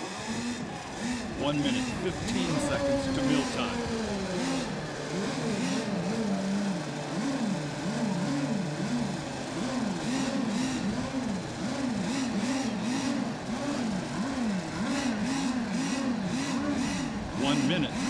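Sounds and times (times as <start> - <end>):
model boat engines revving: 0.0 - 18.0.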